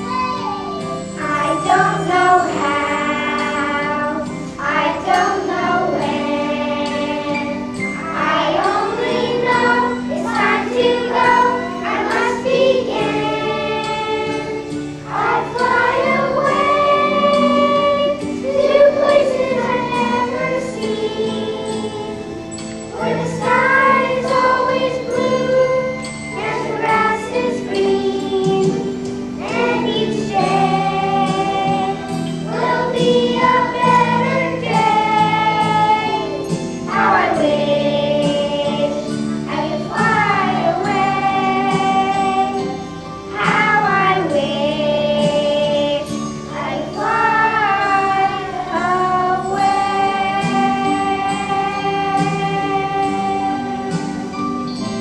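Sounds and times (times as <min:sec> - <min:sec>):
person singing: 0:00.0 - 0:54.4
held accompaniment chords: 0:00.0 - 0:55.0.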